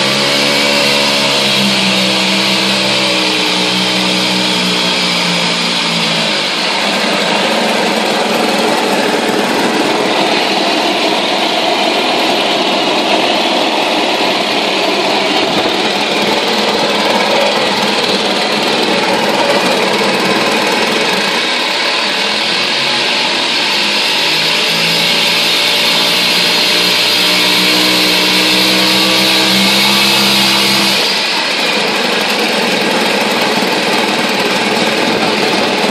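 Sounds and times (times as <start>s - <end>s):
outboard engine running: 0.0s - 35.9s
propeller churning water: 0.0s - 35.9s.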